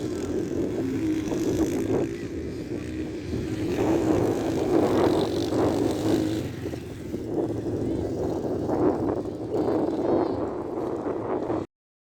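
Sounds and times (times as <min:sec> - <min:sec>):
motorcycle engines racing: 0:00.0 - 0:11.7.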